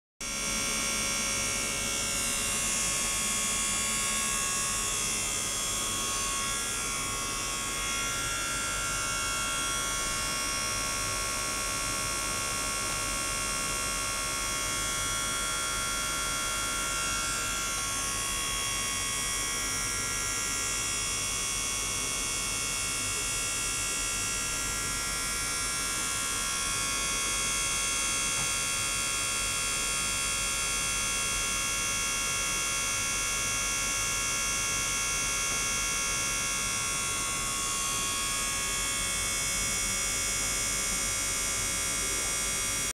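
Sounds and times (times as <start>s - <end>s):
high-pitched electric hum: 0.2s - 42.9s.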